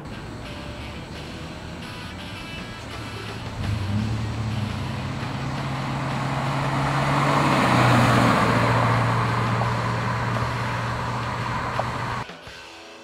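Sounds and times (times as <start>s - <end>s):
car engine drone passing: 0.0s - 12.2s
traffic noise: 0.0s - 12.2s
tyre noise: 0.0s - 12.2s.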